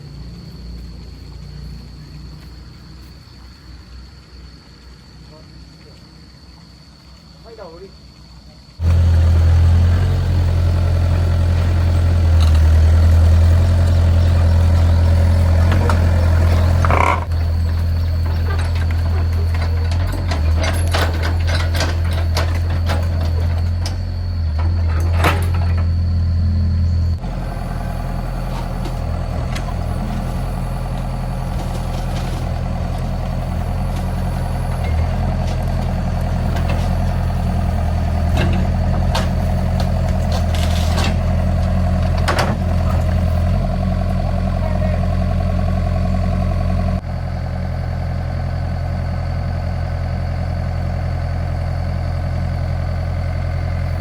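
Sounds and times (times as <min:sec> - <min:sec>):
heavy machine engine at low revs: 0:08.8 - 0:54.0.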